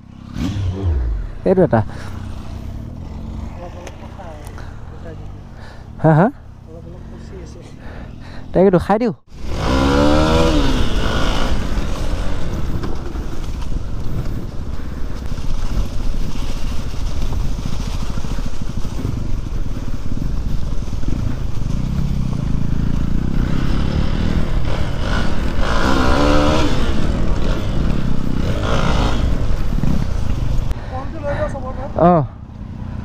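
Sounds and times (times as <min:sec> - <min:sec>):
wind rumble: 0:00.0 - 0:08.5, 0:09.3 - 0:33.0
dirt bike engine running: 0:00.0 - 0:33.0.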